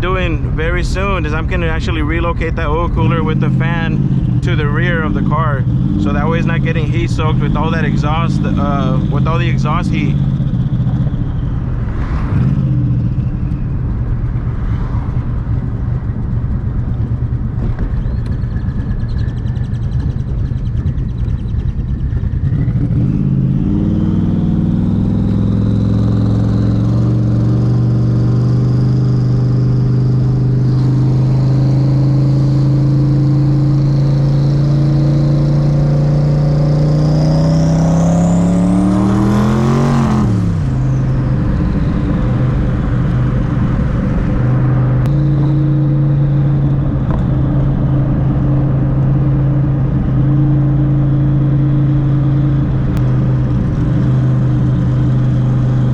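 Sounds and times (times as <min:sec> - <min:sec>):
car engine pulling: 0:00.0 - 0:55.9
high turbo whine: 0:00.0 - 0:55.9.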